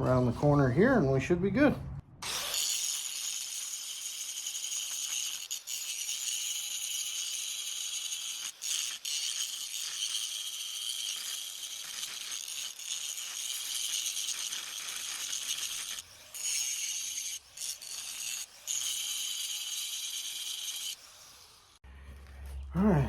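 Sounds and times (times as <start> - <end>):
angle grinder grinding steel: 2.2 - 21.8.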